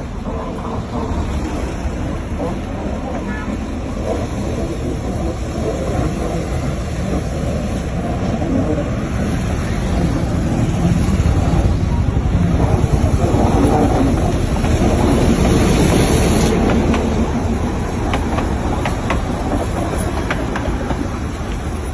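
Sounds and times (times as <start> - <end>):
wheels clicking on rails: 0.0 - 21.9.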